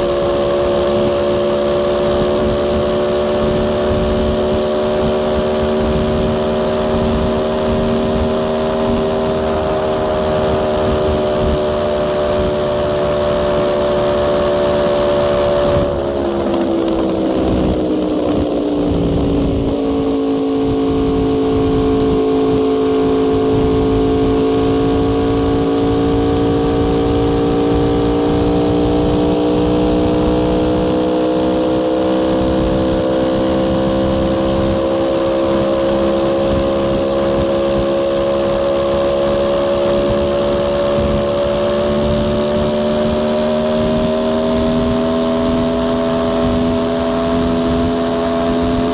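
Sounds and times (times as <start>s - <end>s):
motorcycle engine at highway speed: 0.0s - 48.9s
rush of road noise: 0.0s - 48.9s.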